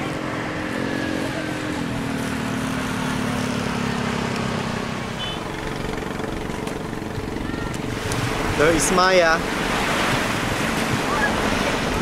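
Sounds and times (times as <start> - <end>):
motor engine humming: 0.0 - 12.0
steady rushing noise: 0.0 - 12.0.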